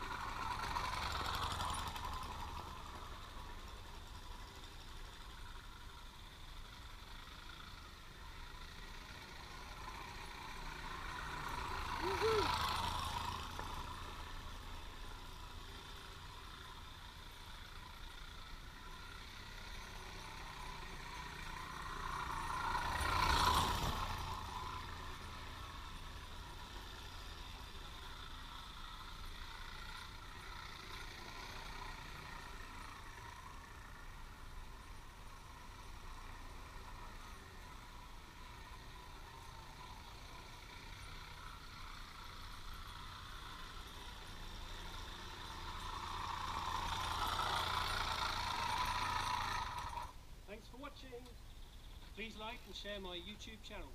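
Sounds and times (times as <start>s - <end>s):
moped engine passing by: 0.0s - 53.9s.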